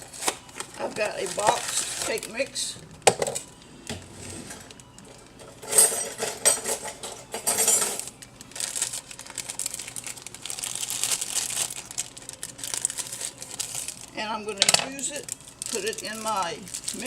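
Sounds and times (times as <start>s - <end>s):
packaging crinkling and rustling: 0.0s - 3.6s, 4.6s - 5.4s, 7.6s - 17.0s.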